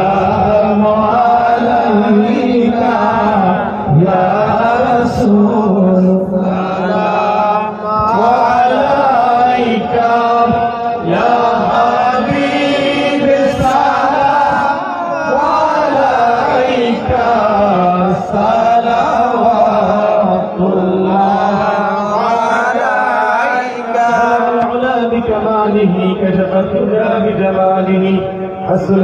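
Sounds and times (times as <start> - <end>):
men chanting together: 0.0 - 25.1.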